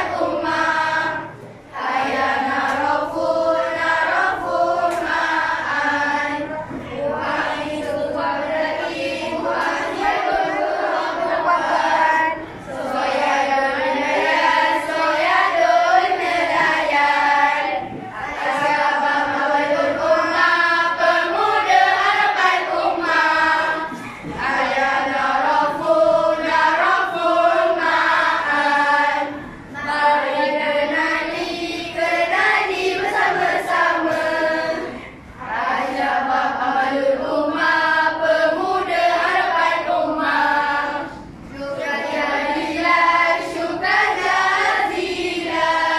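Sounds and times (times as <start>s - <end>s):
children singing in unison: 0.0s - 45.9s.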